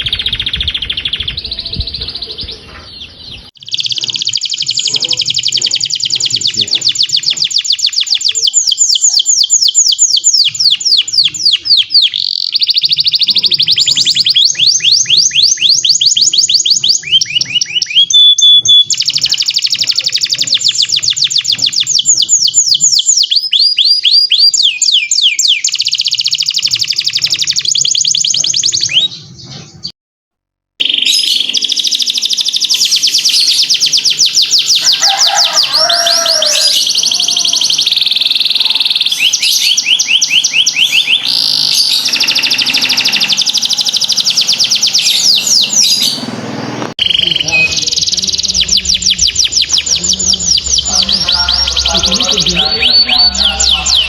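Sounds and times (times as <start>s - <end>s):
canary singing fast trills: 0.0s - 29.9s, 30.8s - 54.0s.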